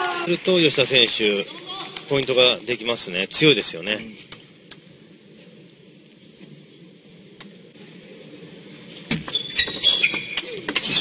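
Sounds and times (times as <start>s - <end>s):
arena ambience: 0.0s - 11.0s.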